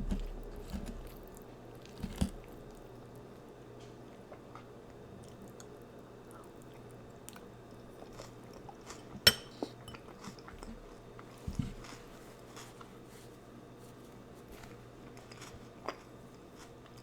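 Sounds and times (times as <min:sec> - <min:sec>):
chewing food: 0:00.0 - 0:13.4, 0:14.0 - 0:17.0.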